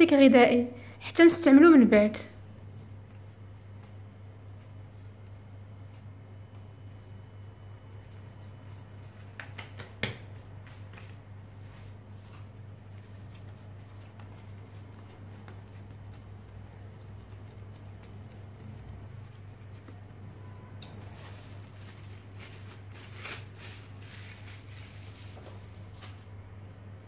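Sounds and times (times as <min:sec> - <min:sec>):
low steady hum: 0:00.0 - 0:27.0
dough handling clicks and ticks: 0:02.5 - 0:26.3.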